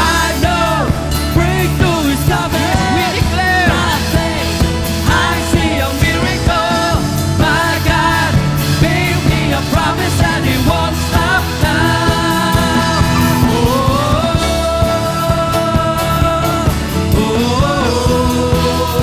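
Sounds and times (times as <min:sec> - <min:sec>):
band playing drums and bass: 0:00.0 - 0:19.0
person singing: 0:00.0 - 0:19.0.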